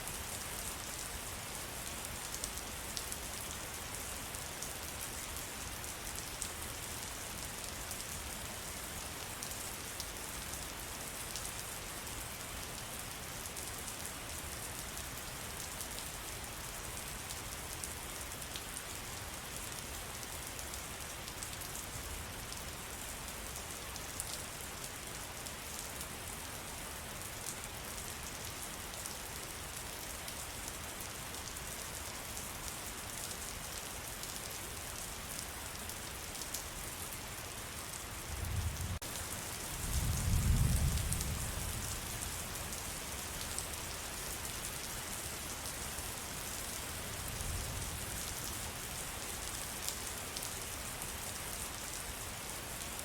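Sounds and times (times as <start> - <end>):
rain falling in a forest: 0.0 - 53.0.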